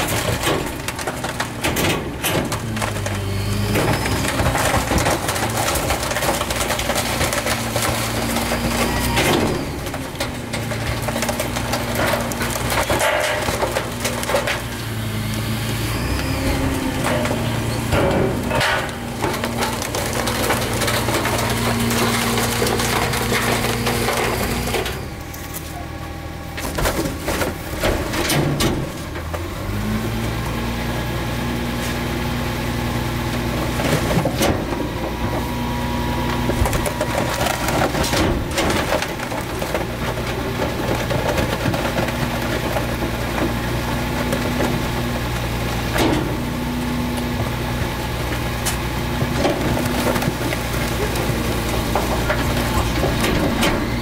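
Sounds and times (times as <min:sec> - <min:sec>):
truck engine revving: 0:00.0 - 0:25.2, 0:27.6 - 0:54.0
wood cracking and splintering: 0:00.0 - 0:25.8, 0:26.5 - 0:54.0
garbage truck packer crushing wood: 0:00.0 - 0:54.0.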